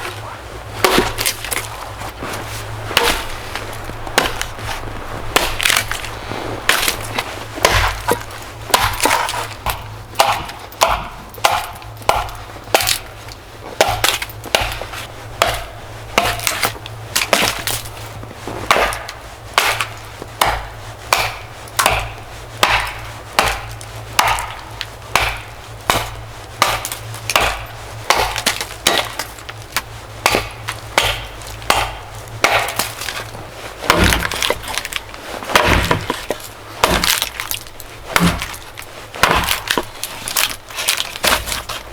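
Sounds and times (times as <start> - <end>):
sawing firewood by hand: 0.0 - 41.9.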